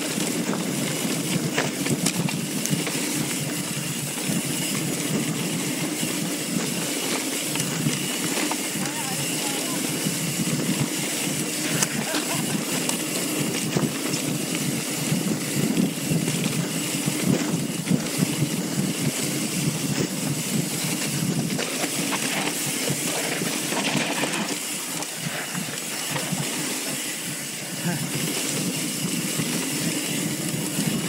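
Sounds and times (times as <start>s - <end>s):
bike knocks and rattles: 0.0s - 27.5s
wind buffeting microphone: 0.0s - 31.0s.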